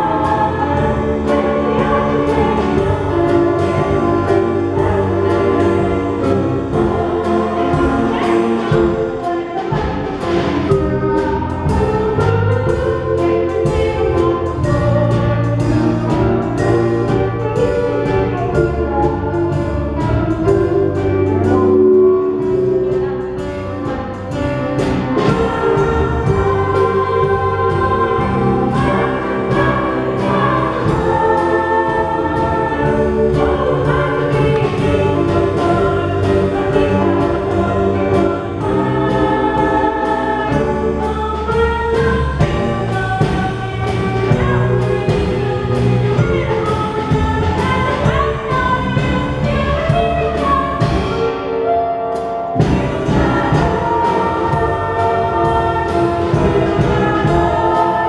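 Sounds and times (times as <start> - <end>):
group of young voices singing: 0.0 - 51.1, 52.6 - 58.0
instrumental accompaniment with beat: 0.0 - 58.0.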